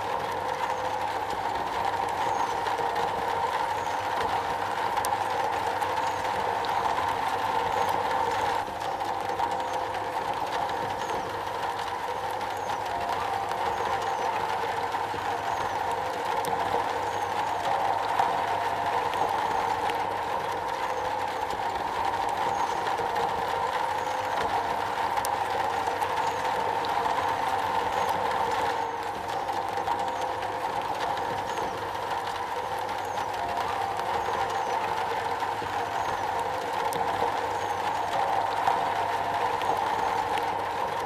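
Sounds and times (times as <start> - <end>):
rain on a metal roof: 0.0 - 41.0.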